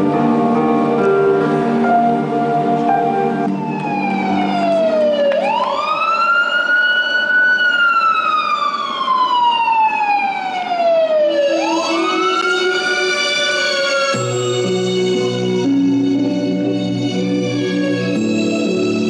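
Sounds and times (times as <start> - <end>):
siren wailing: 3.2 - 19.0.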